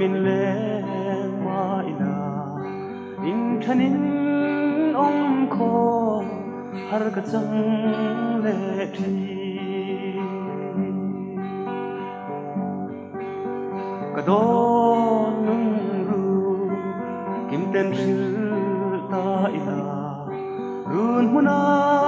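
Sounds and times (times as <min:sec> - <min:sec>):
acoustic guitar plucking and strumming: 0:00.0 - 0:22.0.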